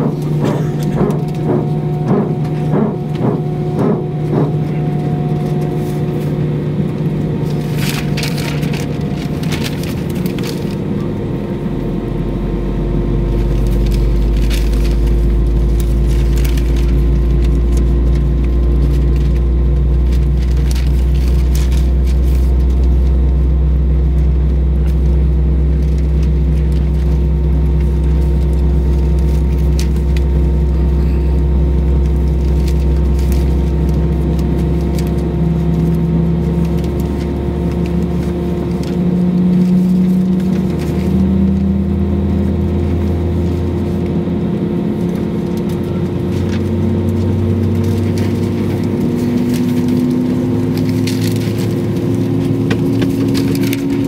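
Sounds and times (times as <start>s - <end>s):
aircraft cabin engine hum: 0.0s - 54.0s.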